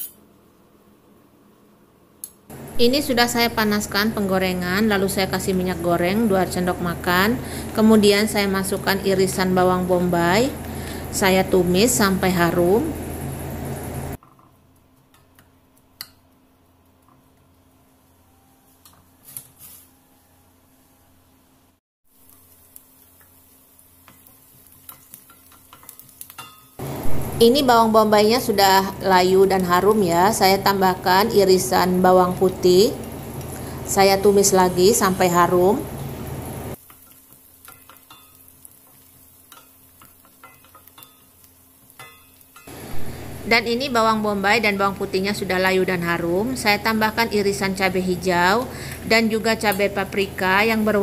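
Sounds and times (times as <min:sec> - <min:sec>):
oil sizzling: 0:02.5 - 0:18.2, 0:22.1 - 0:51.0.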